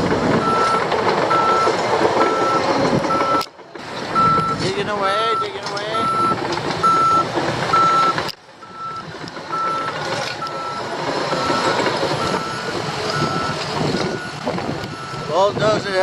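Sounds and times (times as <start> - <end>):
engine running: 0.0 - 16.0
back-up alarm beeping: 0.4 - 3.5, 4.2 - 4.6, 5.2 - 15.3.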